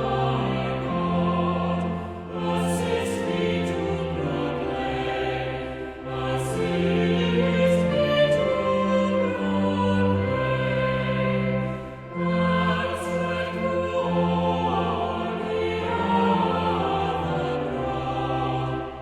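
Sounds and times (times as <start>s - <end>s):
choir singing long held notes: 0.0s - 19.0s.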